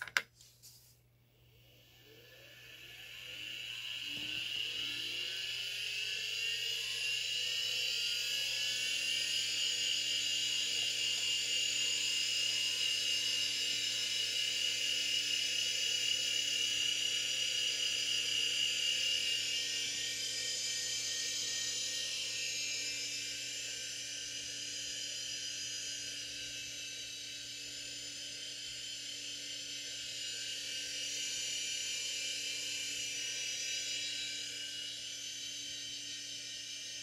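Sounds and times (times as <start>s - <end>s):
hard disk drive whine: 1.3s - 37.0s.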